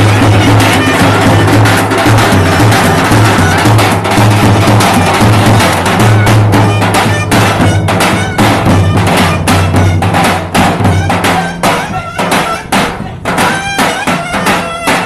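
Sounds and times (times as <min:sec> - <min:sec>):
fast drum beats: 0:00.0 - 0:15.0
folk dance music: 0:00.0 - 0:15.0
reed wind instrument melody: 0:00.0 - 0:15.0.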